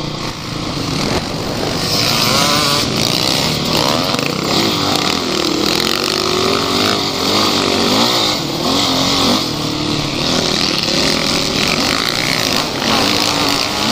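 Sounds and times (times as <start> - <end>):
off-road vehicle engine revving: 0.0 - 13.9.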